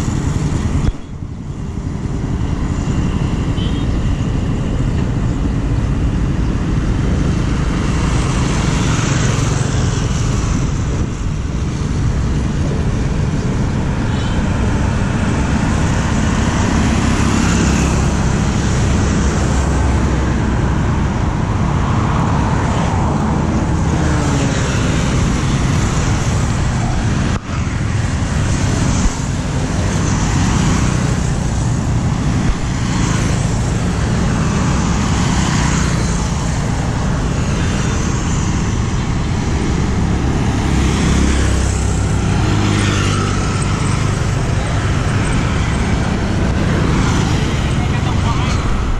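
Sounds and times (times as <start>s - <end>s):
motorbikes passing: 0.0s - 48.9s
traffic rumble: 0.0s - 48.9s.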